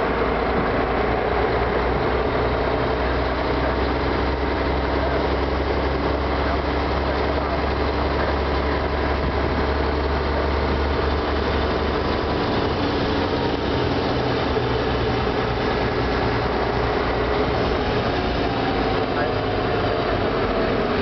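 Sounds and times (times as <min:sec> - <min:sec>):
diesel truck engine drone: 0:00.0 - 0:21.0.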